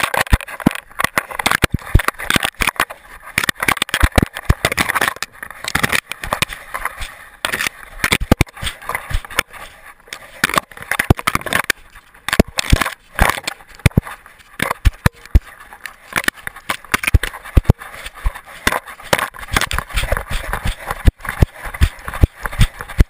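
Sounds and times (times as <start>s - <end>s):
camera rattling in mount: 0.0s - 23.0s
clicks and thumps: 0.0s - 23.0s.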